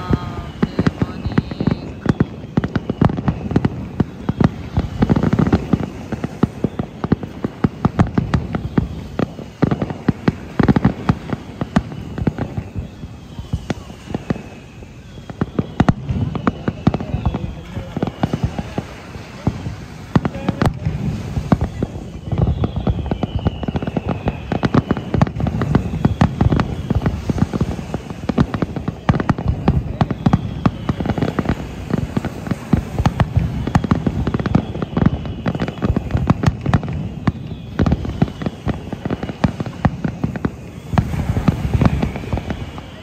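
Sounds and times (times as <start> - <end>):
fireworks bursts and crackling: 0.0 - 43.0
fireworks falling whistles: 0.0 - 43.0.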